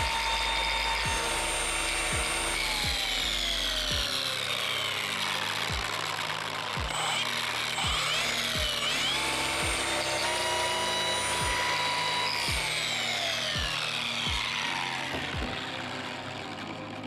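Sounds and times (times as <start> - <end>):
music with thumping beat: 0.0 - 4.3, 5.6 - 13.0, 13.6 - 15.9
polisher whining: 0.0 - 17.0.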